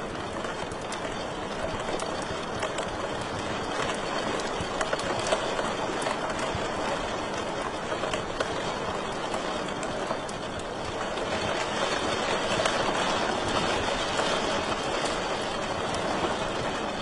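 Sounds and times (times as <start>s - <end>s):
fire popping and snapping: 0.0s - 17.0s.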